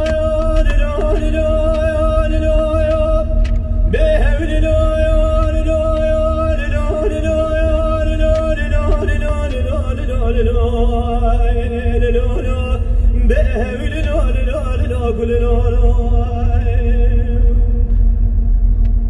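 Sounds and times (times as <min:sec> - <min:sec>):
steady musical accompaniment: 0:00.0 - 0:18.4
low rumble: 0:00.0 - 0:19.0.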